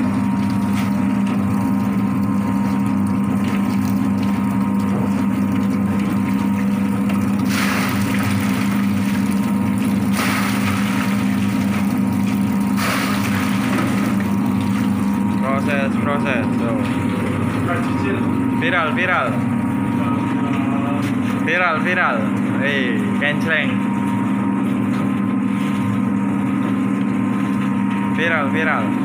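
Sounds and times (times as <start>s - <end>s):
plucking machine motor humming: 0.0s - 29.0s.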